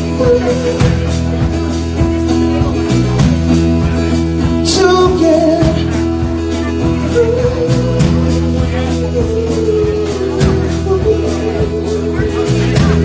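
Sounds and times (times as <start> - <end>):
acoustic guitar: 0.0 - 13.0
bass guitar: 0.0 - 13.0
drum kit beat: 0.0 - 13.0.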